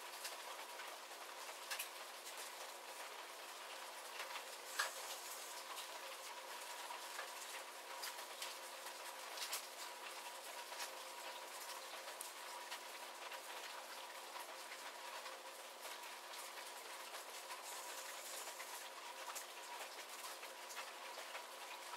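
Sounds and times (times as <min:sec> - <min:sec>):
steady hiss of rain: 0:00.0 - 0:21.9.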